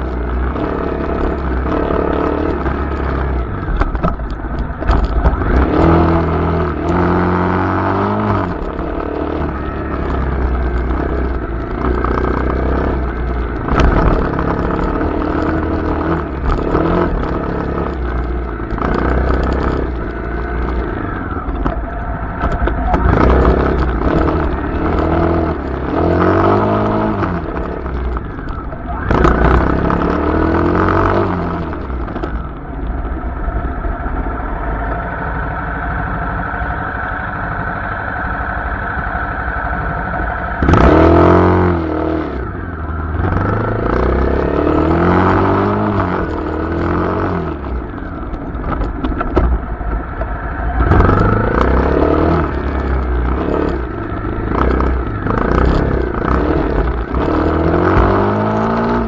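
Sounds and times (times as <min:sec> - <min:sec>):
dirt bike engine revving: 0:00.0 - 0:32.5, 0:35.3 - 0:59.0.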